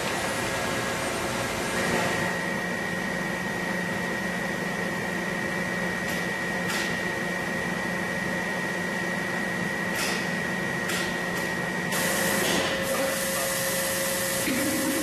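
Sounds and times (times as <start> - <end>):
high steady machine whine: 0.0 - 15.0
machine mechanical hum: 0.0 - 15.0.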